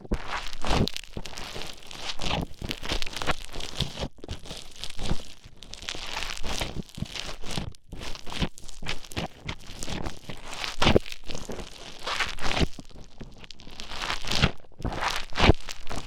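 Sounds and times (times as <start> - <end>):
foam squished and kneaded: 0.0 - 16.0.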